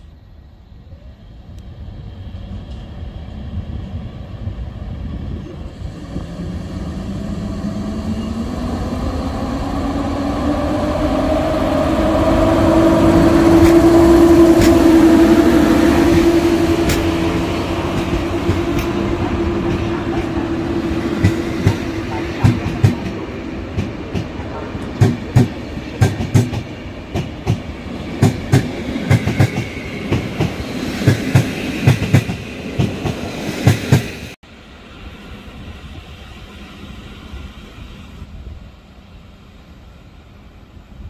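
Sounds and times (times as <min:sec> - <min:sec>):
electric locomotive whine: 0:00.0 - 0:41.0.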